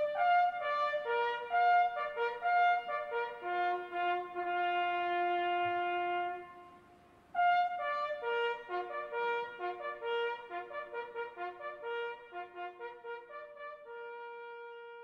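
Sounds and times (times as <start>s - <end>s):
solo brass instrument playing: 0.0s - 15.0s.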